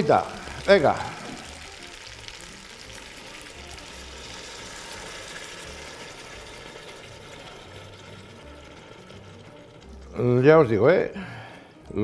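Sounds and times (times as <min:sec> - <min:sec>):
water pouring into a metal pot: 0:00.0 - 0:11.0.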